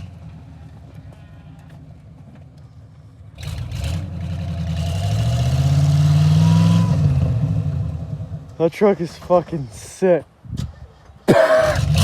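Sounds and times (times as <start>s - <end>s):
truck engine idling and revving: 0.0s - 9.7s, 10.5s - 12.0s.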